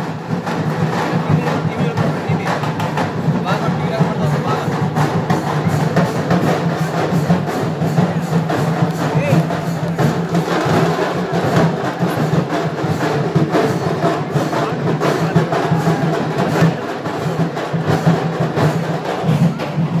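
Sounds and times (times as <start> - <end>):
live drumming and percussion: 0.0 - 20.0
low drum tone: 0.0 - 20.0.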